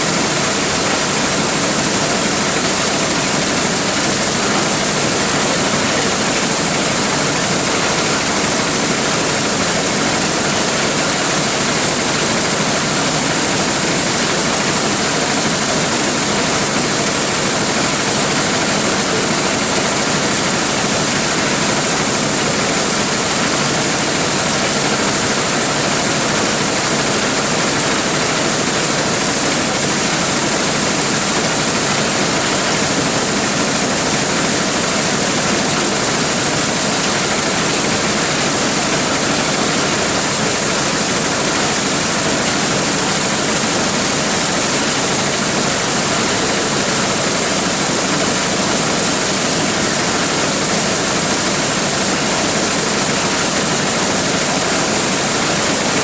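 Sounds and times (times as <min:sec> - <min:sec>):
corn sheller machine running: 0:00.0 - 0:56.0.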